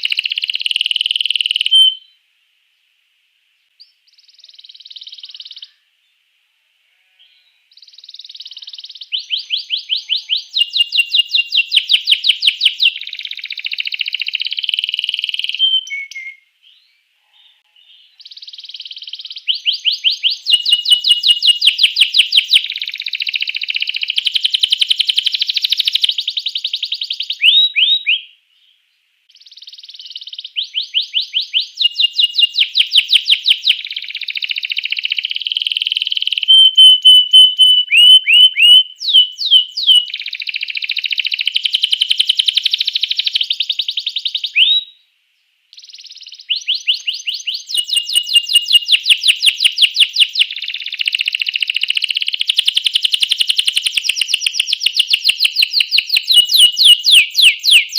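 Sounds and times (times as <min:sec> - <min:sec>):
canary singing trills: 0:00.0 - 0:02.2, 0:03.8 - 0:05.9, 0:06.9 - 0:28.4, 0:29.3 - 0:45.0, 0:45.7 - 0:57.9.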